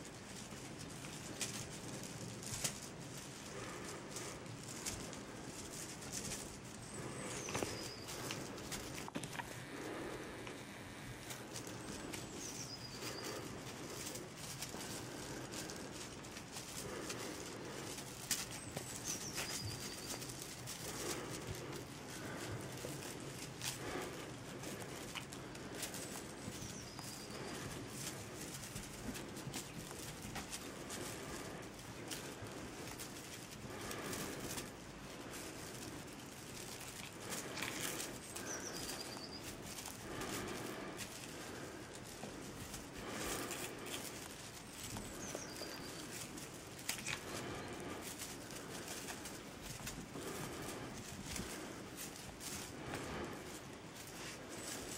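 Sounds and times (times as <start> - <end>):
kittens rustling on blanket: 0.0 - 54.9.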